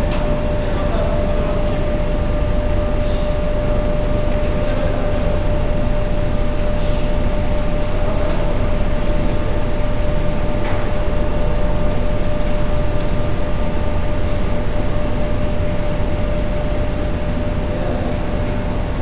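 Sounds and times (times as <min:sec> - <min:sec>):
machinery whine: 0:00.0 - 0:19.0
mill machinery rumbling: 0:00.0 - 0:19.0.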